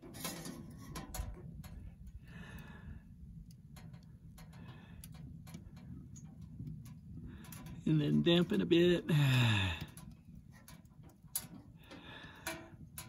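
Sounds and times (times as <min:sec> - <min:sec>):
wood fire crackling in a stove: 0:00.0 - 0:13.0.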